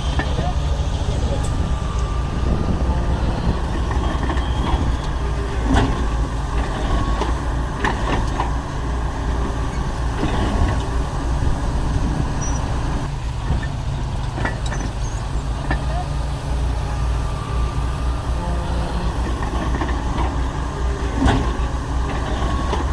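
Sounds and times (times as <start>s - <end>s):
metallic clanks and knocks: 0.0s - 12.6s, 13.3s - 16.0s, 19.0s - 22.9s
heavy diesel engines running: 0.0s - 22.9s.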